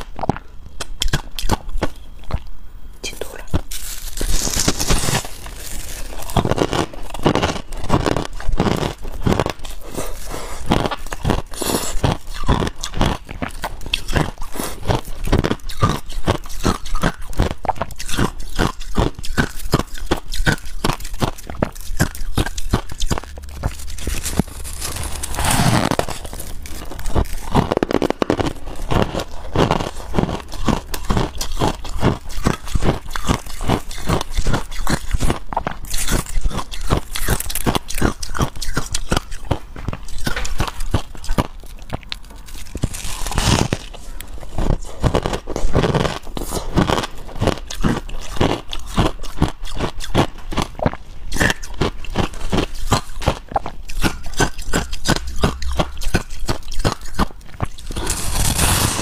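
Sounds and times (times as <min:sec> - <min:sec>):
crunching ice being chewed: 0:00.0 - 0:02.6, 0:03.2 - 0:59.0.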